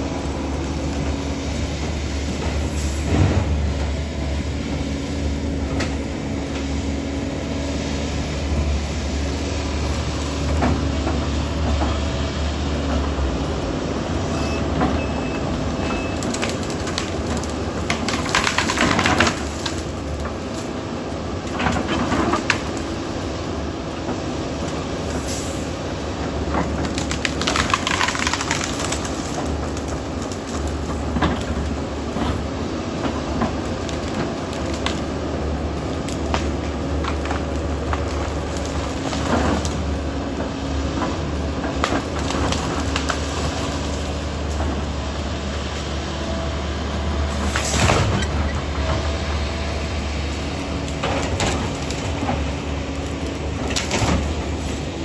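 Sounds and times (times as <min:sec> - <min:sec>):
excavator engine drone: 0:00.0 - 0:55.0.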